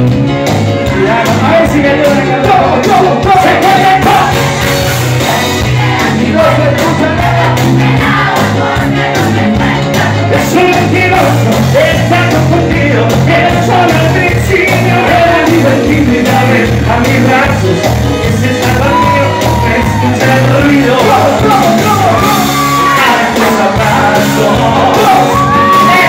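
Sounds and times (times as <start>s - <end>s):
lead singer: 0.0s - 26.0s
low bass line: 0.0s - 26.0s
percussion: 0.0s - 26.0s
backing vocals: 0.9s - 26.0s.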